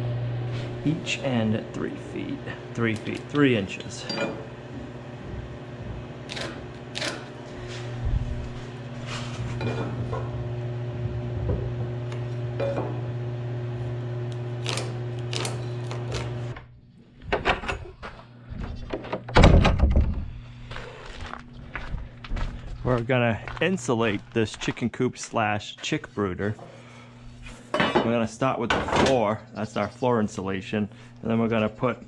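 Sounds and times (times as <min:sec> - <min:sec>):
steady low hum: 0:00.0 - 0:28.6.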